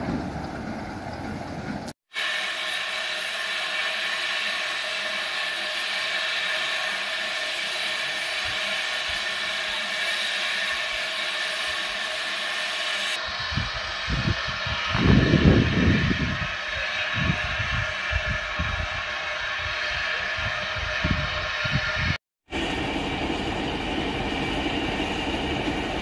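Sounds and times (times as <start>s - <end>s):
steam locomotive hissing: 0.0s - 26.0s.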